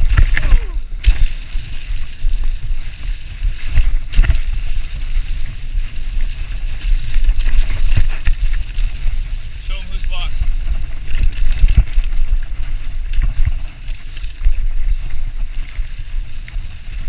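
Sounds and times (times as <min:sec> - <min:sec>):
bike tyre noise on dirt: 0:00.0 - 0:17.0
wind rumble on microphone: 0:00.0 - 0:17.0.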